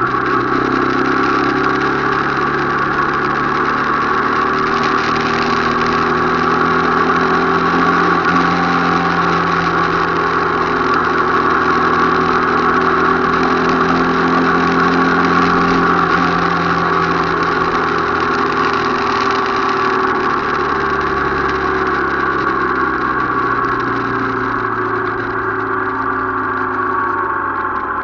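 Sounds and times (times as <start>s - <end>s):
motorcycle engine drone: 0.0s - 28.0s.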